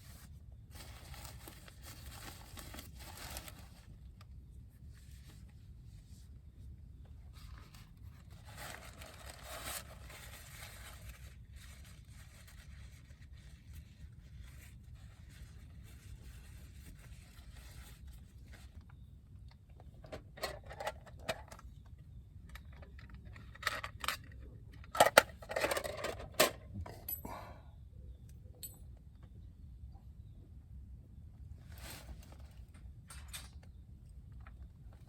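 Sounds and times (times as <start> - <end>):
objects rustling and scraping: 0.0 - 19.1, 19.7 - 27.4, 31.5 - 35.0.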